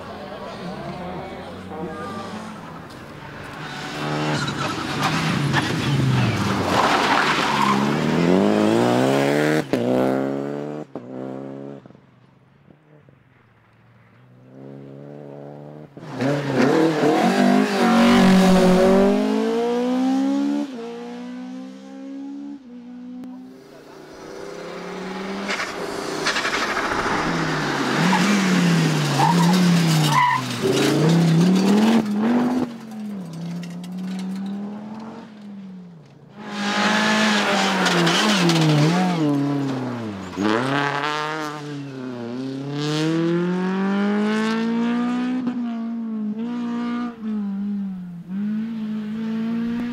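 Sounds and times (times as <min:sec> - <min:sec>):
rally car engine revving: 0:00.2 - 0:11.9, 0:14.5 - 0:49.9.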